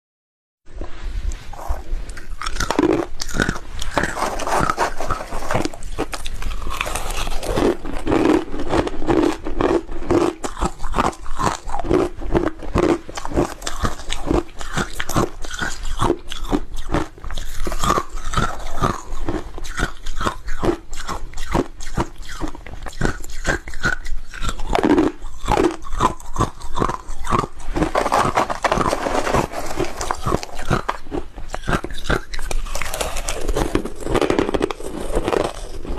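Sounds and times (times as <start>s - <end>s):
person crunching ice: 2.1s - 35.9s.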